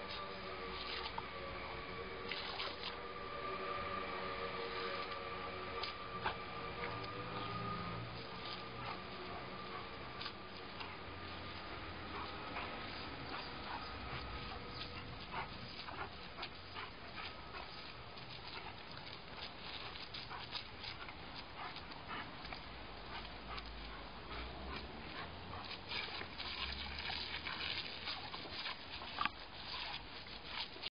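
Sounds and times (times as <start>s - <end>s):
water splashing: 0.0s - 30.9s.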